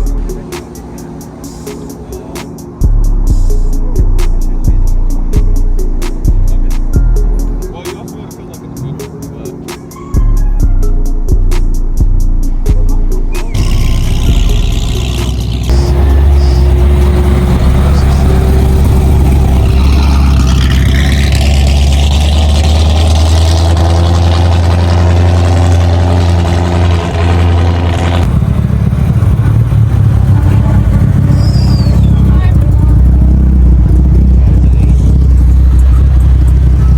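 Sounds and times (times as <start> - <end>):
car engine and exhaust rumbling: 0.0 - 36.9.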